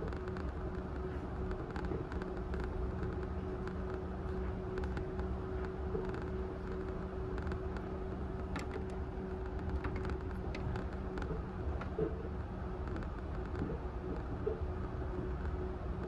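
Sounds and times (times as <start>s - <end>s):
constant hum: 0.0s - 16.0s
light ticks and rattles: 0.0s - 16.0s
train tyres rumbling on guideway: 0.0s - 16.0s.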